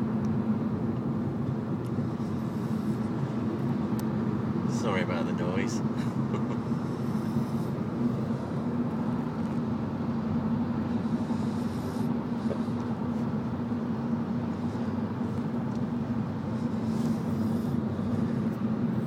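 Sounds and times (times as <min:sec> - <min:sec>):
car cabin drone: 0:00.0 - 0:19.0.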